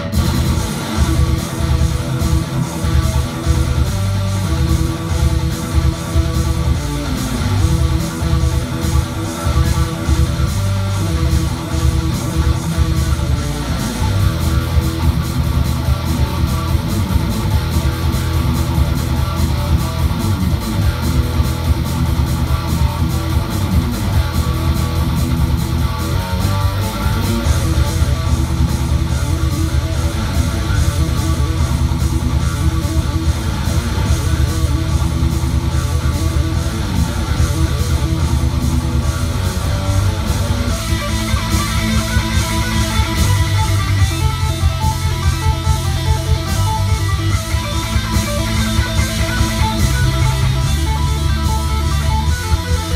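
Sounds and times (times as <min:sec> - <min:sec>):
electric guitar riff: 0:00.0 - 0:52.9.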